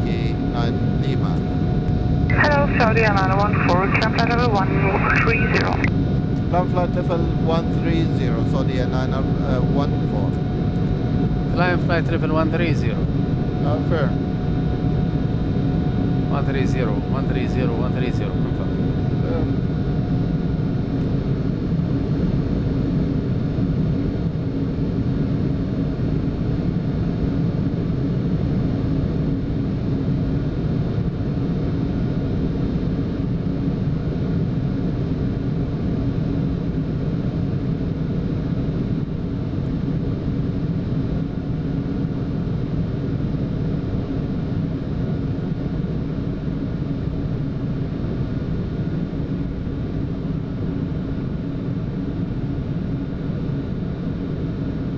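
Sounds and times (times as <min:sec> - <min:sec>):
faint constant hums: 0:00.0 - 0:54.9
rumble of airflow and engines: 0:00.0 - 0:54.9.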